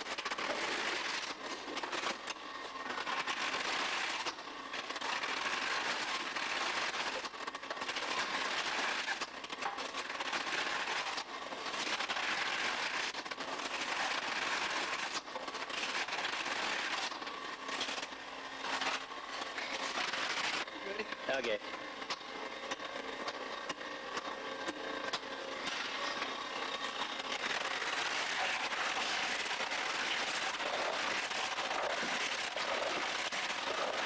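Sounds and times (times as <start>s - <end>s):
cutting machine crackly clatter: 0.0s - 34.0s.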